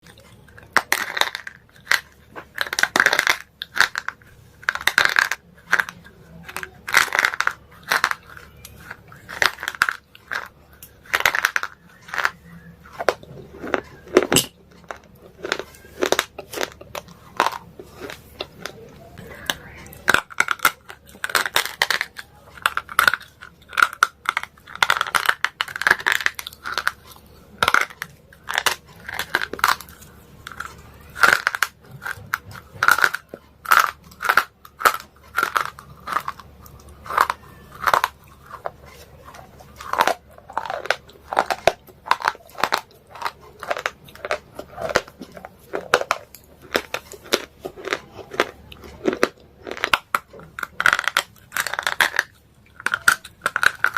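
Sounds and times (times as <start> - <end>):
slate pencils being chewed: 0.0 - 53.9.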